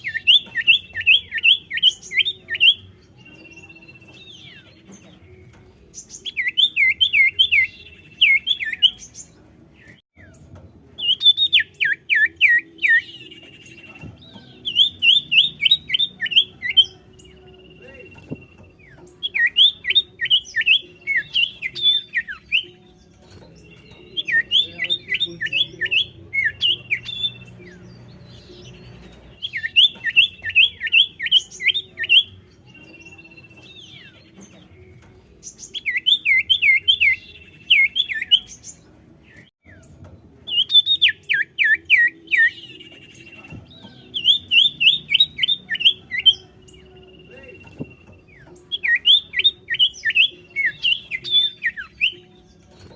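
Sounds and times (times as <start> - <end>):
bird singing high sweeping notes: 0.0 - 52.9.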